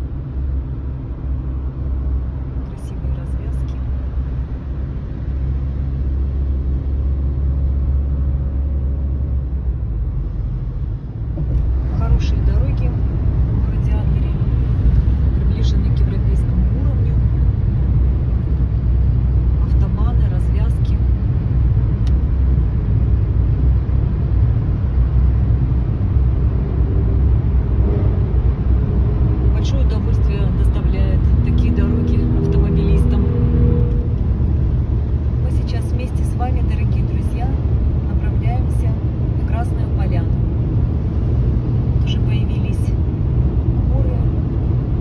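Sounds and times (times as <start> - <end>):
car engine drone: 0.0 - 45.0
tyre and road noise: 0.0 - 45.0.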